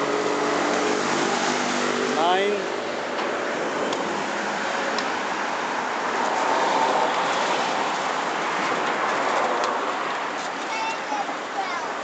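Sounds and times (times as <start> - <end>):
vehicle passing: 0.0 - 10.3
road traffic noise: 0.0 - 12.0.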